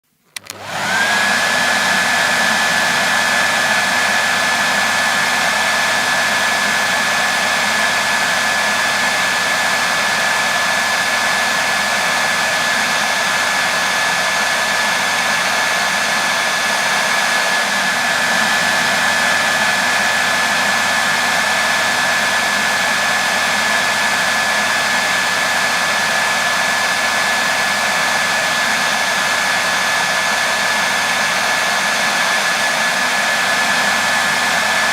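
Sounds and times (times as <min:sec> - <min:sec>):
hair dryer running: 0:00.2 - 0:34.9.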